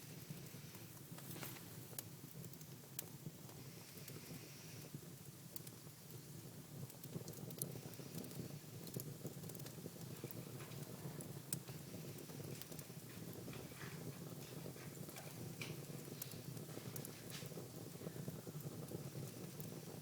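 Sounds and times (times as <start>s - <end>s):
fire crackles and pops: 0.0s - 20.0s
fire rushing in a fireplace: 0.0s - 20.0s.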